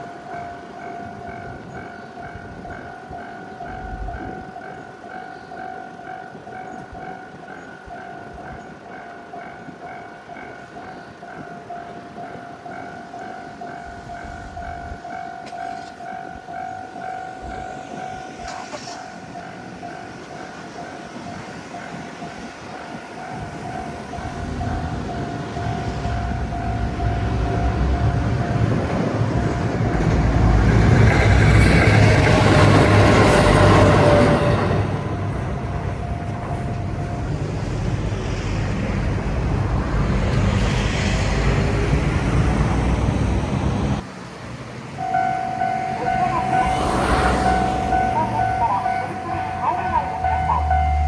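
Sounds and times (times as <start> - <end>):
railroad crossing bell ringing: 0.0 - 44.1, 44.9 - 51.0
train rumbling: 0.0 - 51.0.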